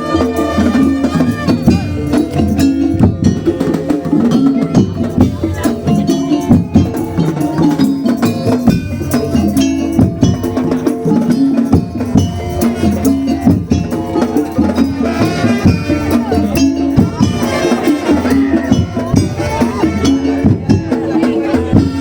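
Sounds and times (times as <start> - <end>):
clacking wood block percussion: 0.0 - 22.0
drums: 0.0 - 22.0.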